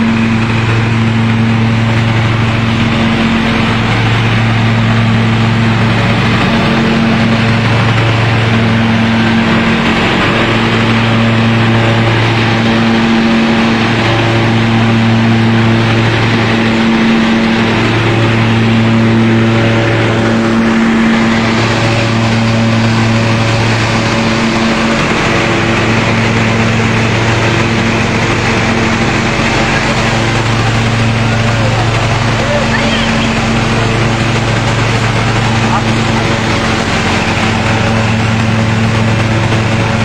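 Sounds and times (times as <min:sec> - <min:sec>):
threshing machine running: 0:00.0 - 0:40.0.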